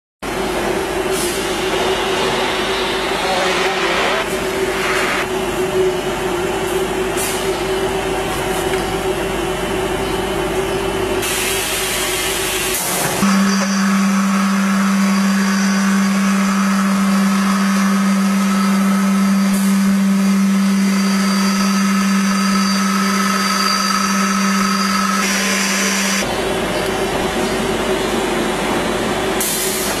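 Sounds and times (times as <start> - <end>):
high machine whine: 0.2 - 30.0
packing machine electric hum: 0.2 - 30.0.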